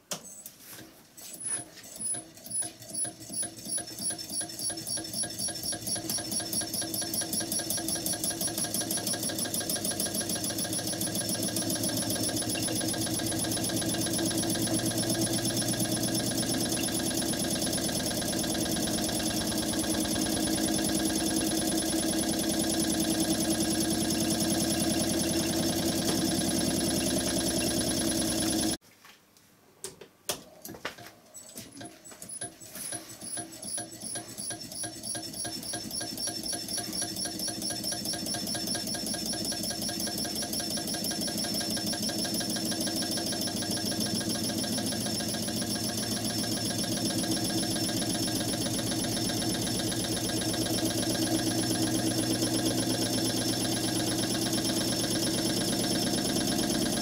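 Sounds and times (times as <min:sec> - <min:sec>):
electric motor ticking and buzzing: 0:02.0 - 0:28.8, 0:33.2 - 0:57.0.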